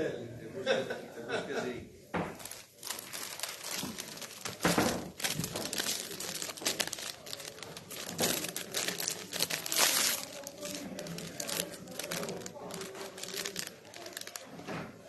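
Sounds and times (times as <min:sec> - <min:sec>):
crinkling rustling noise: 0:02.2 - 0:15.0.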